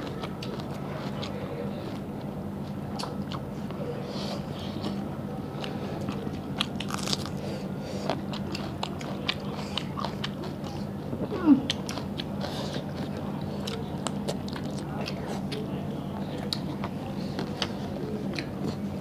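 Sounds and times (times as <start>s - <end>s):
wet chewing with clicks: 0.0s - 3.8s, 4.5s - 7.4s, 8.0s - 18.9s
steady low hum: 0.0s - 19.0s.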